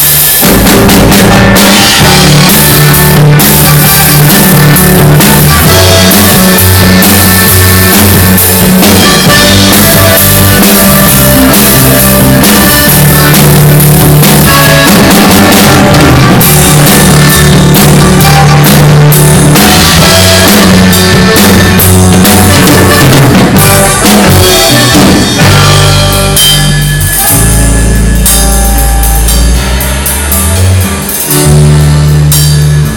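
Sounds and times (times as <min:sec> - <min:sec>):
drum kit strikes: 0:00.0 - 0:32.9
guitar: 0:00.0 - 0:32.9
live band playing: 0:00.0 - 0:32.9
low bass notes: 0:00.0 - 0:32.9.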